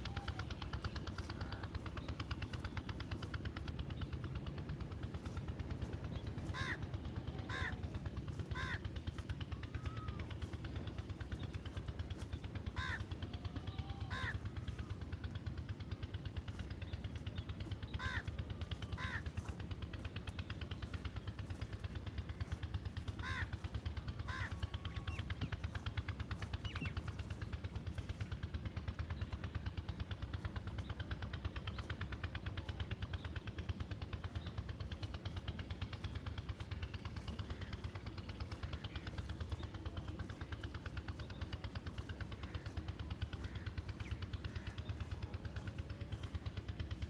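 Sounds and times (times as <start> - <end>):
bird calling: 0.0 - 32.0, 32.6 - 47.0
steady low rumble: 0.0 - 47.0.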